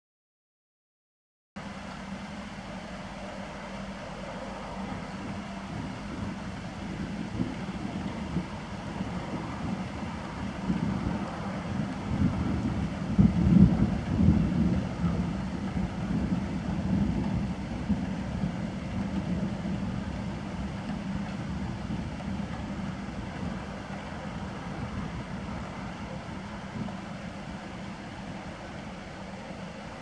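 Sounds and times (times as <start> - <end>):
rolling thunder rumble: 1.6 - 30.0.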